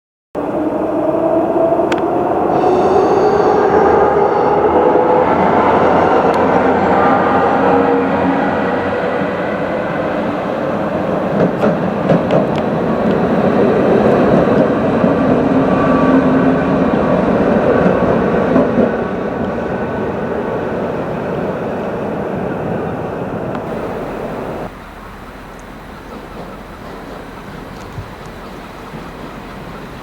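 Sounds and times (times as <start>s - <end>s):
train wheels rumbling on rails: 0.4s - 30.0s.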